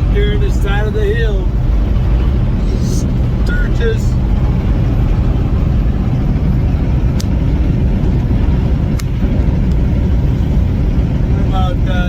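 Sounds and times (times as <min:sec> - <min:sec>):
vehicle road rumble: 0:00.0 - 0:12.0.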